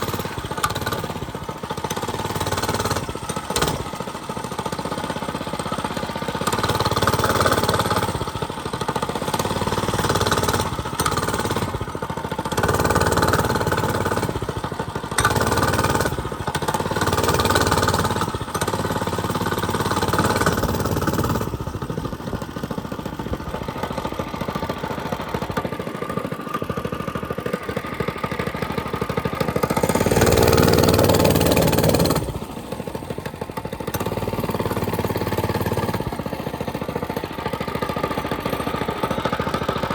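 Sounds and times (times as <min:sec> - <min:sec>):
mini bike engine revving: 0:00.0 - 0:39.9.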